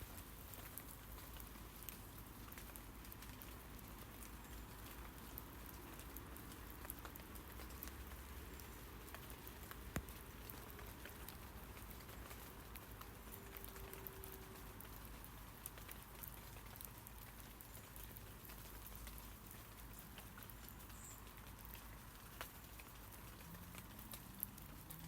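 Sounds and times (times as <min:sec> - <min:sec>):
rain on tree leaves: 0:00.0 - 0:25.0.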